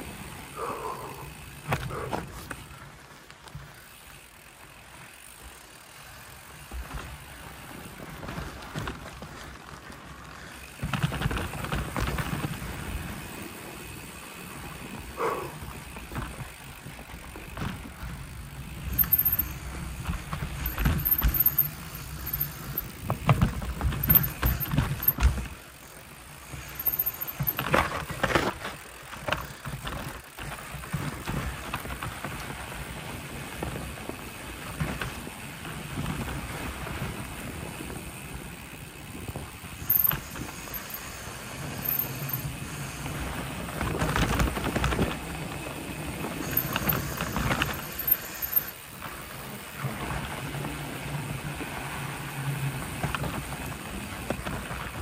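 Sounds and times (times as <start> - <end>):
bike rattling over bumps: 0.0 - 55.0.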